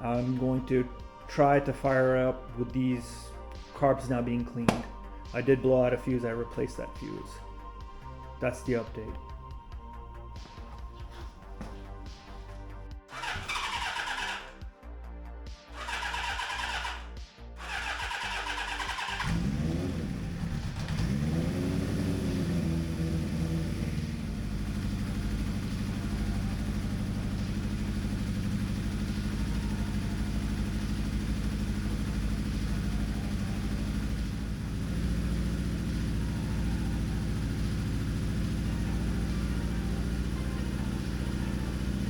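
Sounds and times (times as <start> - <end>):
motorcycle engine revving and idling: 0.0 - 14.7, 15.8 - 42.0.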